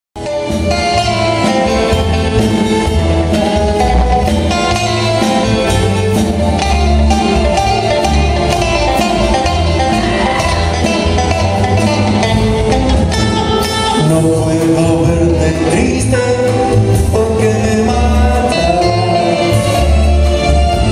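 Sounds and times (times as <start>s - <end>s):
bass guitar: 0.2s - 20.9s
drum kit beat: 0.2s - 20.9s
electric guitar melody: 0.2s - 20.9s.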